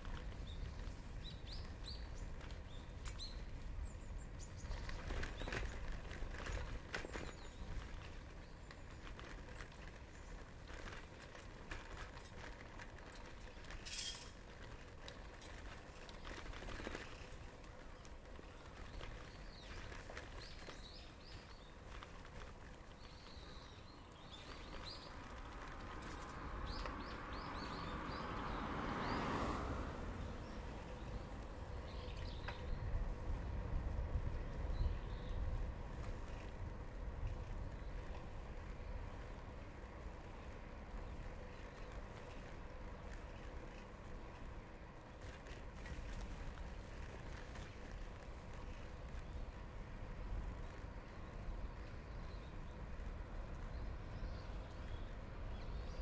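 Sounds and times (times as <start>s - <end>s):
bicycle clicks and rattles: 0.0s - 28.1s, 30.2s - 56.0s
bicycle rolling rumble: 0.0s - 56.0s.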